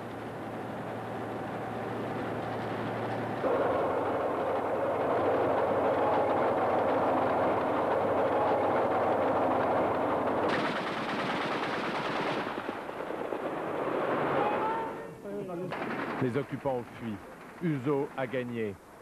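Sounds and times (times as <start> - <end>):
clatter of tank tracks: 0.0 - 14.4, 15.5 - 18.8
tank engine running: 0.0 - 19.0.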